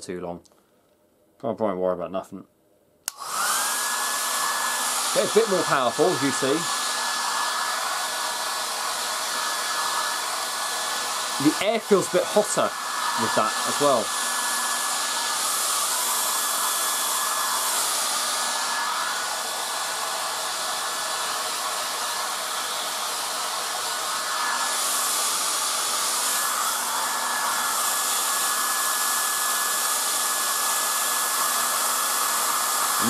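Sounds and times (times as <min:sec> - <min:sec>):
hairdryer running: 0:03.1 - 0:33.0.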